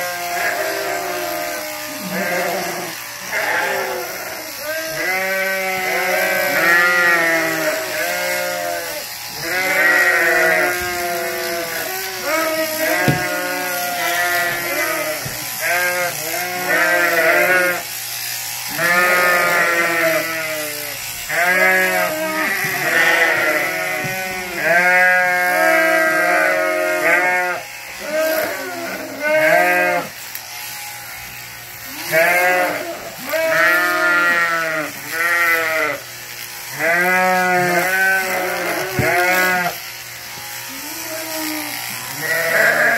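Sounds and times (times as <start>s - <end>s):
sheep bleating: 0.0s - 31.2s, 31.8s - 42.9s
electric clippers humming: 0.0s - 42.9s.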